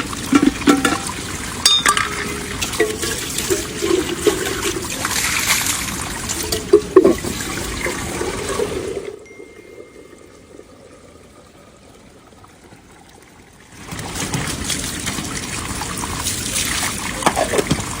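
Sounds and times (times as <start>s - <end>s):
water splashing and pouring: 0.0s - 18.0s.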